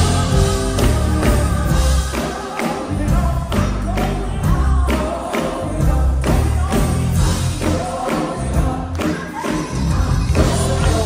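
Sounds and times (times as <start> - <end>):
gospel band and singers: 0.0 - 11.0.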